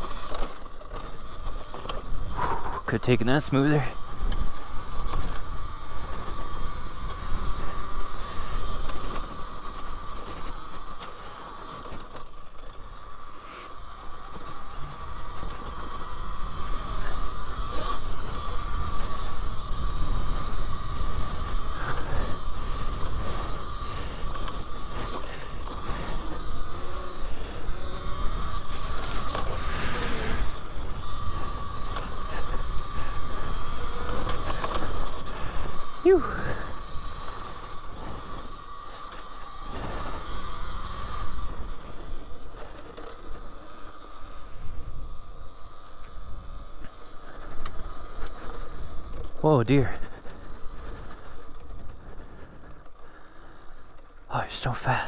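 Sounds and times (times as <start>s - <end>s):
electric dirt bike motor whine: 0.0s - 55.0s.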